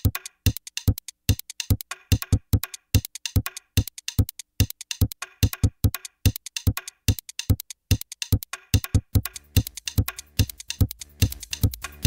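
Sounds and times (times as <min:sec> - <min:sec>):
drum machine beat: 0:00.0 - 0:12.0.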